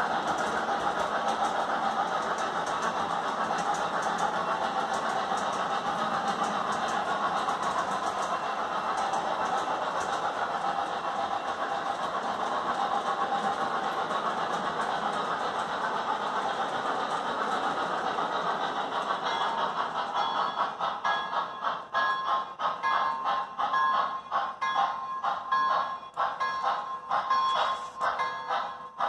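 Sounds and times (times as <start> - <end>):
model locomotive steam sounds: 0.0 - 29.0
model train wheels rolling: 0.0 - 29.0.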